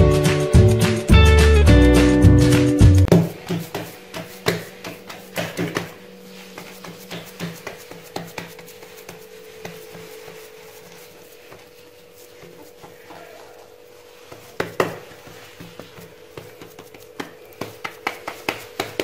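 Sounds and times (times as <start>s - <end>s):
hands patting dough on countertop: 3.0s - 19.0s.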